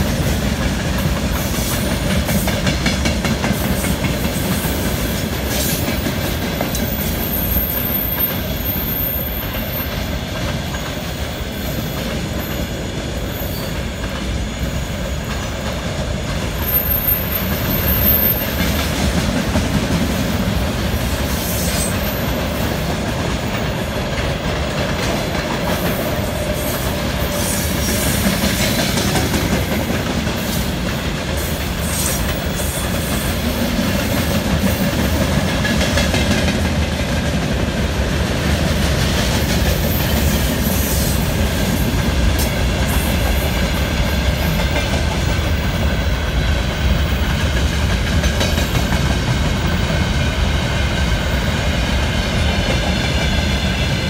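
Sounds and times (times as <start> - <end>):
train wheels rumbling on rails: 0.0 - 54.0
wheels clickety-clack on rail joints: 0.0 - 54.0.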